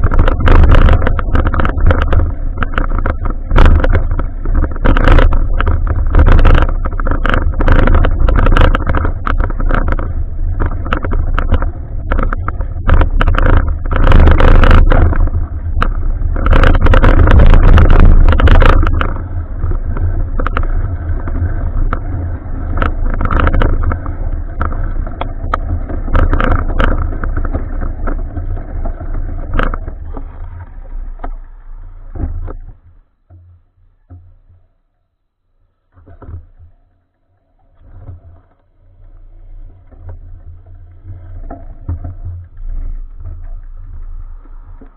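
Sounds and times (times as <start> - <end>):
bicycle knocks and rattles: 0.0 - 34.7, 37.7 - 44.9
wind and road rumble: 0.0 - 35.0, 35.6 - 44.9.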